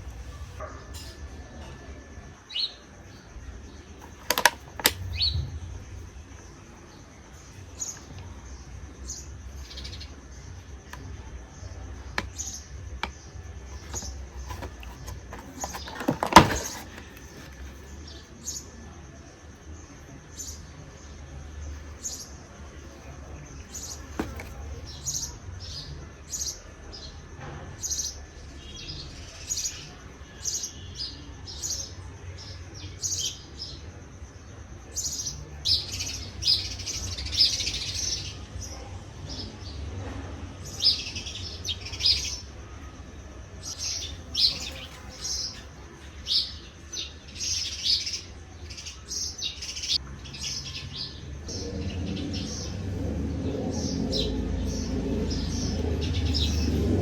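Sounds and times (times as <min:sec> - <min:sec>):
small birds chirping: 0:00.0 - 0:27.2, 0:27.8 - 0:39.9, 0:40.6 - 0:57.0.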